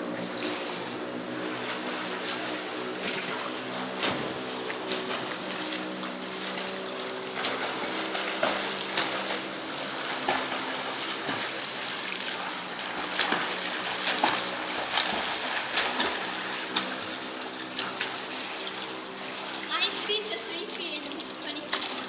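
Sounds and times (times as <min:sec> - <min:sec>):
steady hum: 0:00.0 - 0:22.0
swimmer splashing in pool water: 0:00.0 - 0:22.0.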